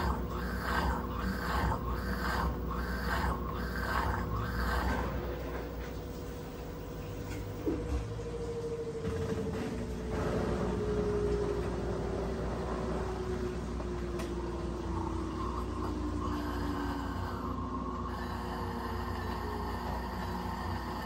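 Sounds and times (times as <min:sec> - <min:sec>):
washing machine motor whining: 0:00.0 - 0:21.0.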